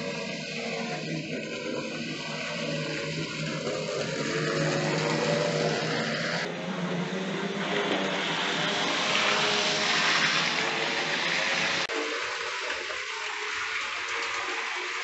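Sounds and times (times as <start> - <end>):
model train motor whirring: 0.0 - 15.0
wheels on rails: 0.0 - 15.0.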